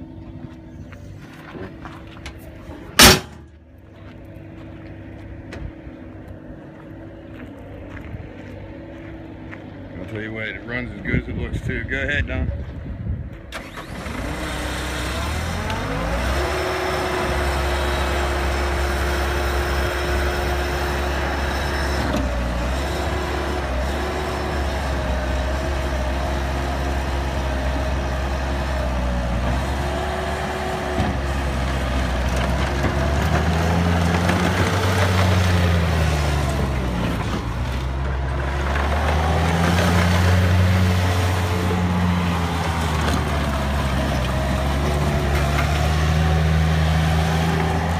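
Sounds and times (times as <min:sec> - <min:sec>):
diesel loader engine running: 0:00.0 - 0:11.7, 0:12.3 - 0:47.9.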